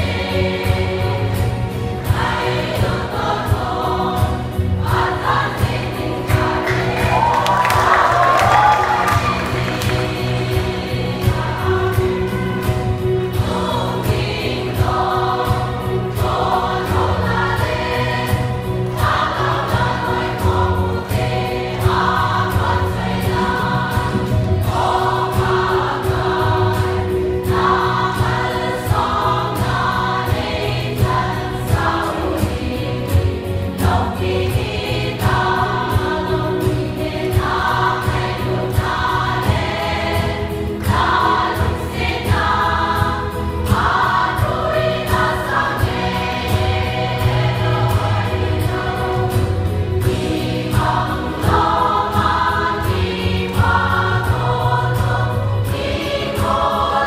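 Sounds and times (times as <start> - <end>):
choir of women singing: 0.0 - 57.0.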